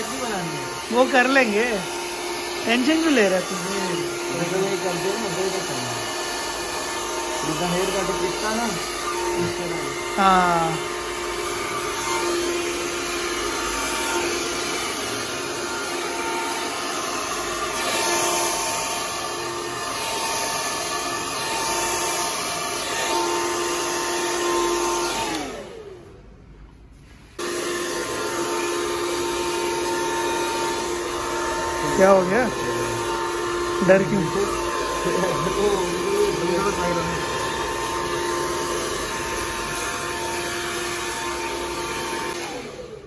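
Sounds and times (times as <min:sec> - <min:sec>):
hair dryer blowing: 0:00.0 - 0:26.2, 0:27.3 - 0:43.0.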